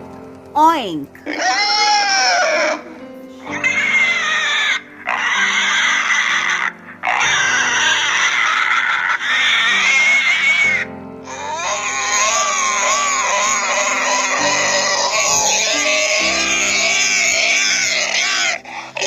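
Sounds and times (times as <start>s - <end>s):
background music: 0.0s - 19.0s
pigs squealing: 1.2s - 19.0s.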